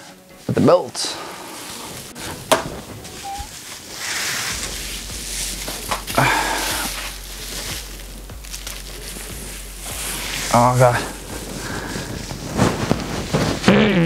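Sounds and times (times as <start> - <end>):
paper wrapping rustling: 0.3 - 13.8.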